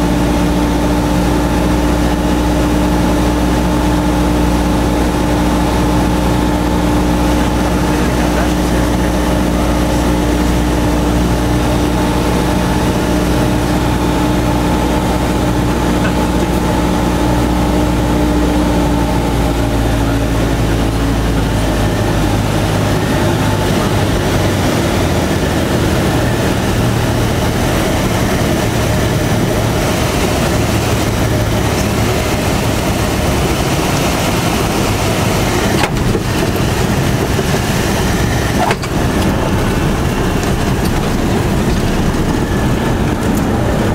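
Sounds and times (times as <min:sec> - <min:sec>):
piston engine and propeller drone: 0:00.0 - 0:43.9
rush of air and rolling noise: 0:00.0 - 0:43.9.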